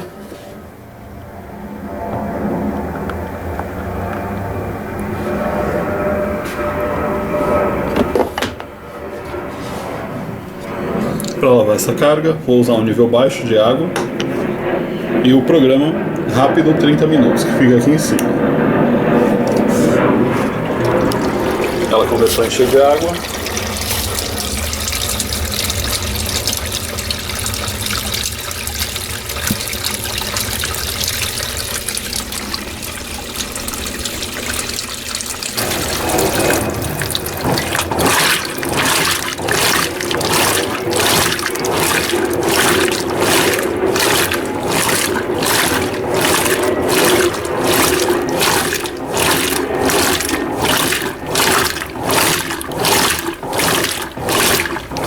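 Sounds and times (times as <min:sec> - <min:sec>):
washing machine filling with water: 0:00.0 - 0:17.6, 0:18.4 - 0:55.0
washing machine pulsing swish: 0:00.0 - 0:55.0.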